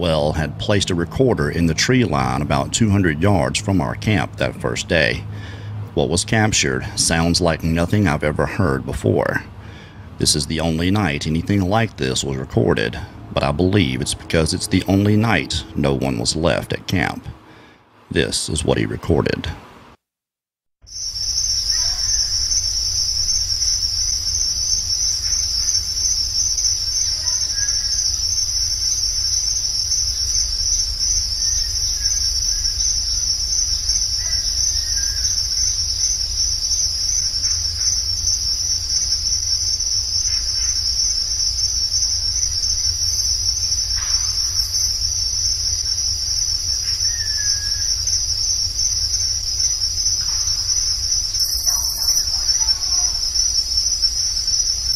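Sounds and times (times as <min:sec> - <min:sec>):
pulsing insect chorus: 0:06.3 - 0:17.8, 0:20.9 - 0:54.9.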